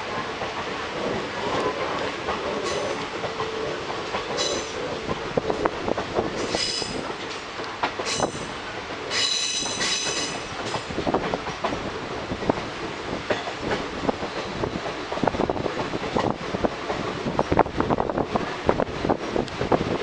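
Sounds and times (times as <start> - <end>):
train wheels clacking over rail joints: 0.0 - 17.6.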